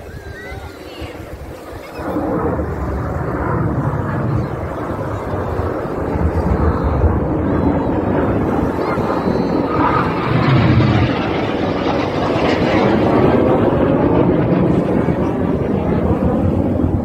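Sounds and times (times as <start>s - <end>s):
jet aircraft engine rush: 0.0s - 17.0s.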